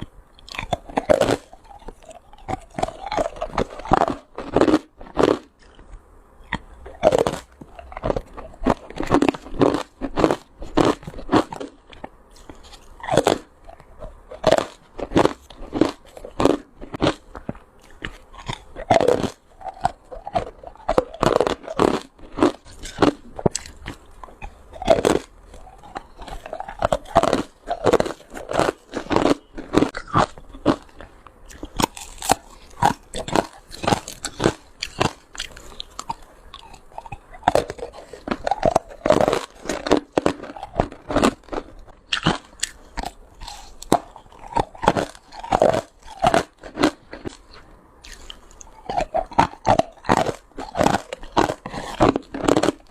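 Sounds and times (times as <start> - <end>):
person crunching ice: 0.0 - 5.8, 6.5 - 52.9.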